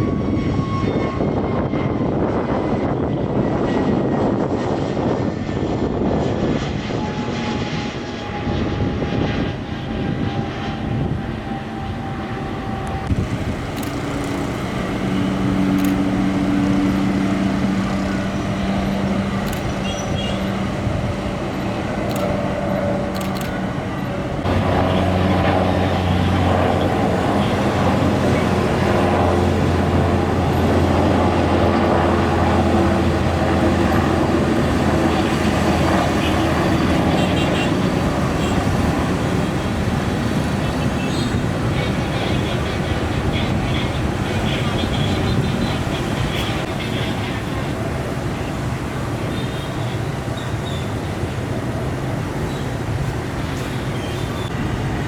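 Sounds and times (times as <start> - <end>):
engine and traffic noise: 9.5 - 55.0.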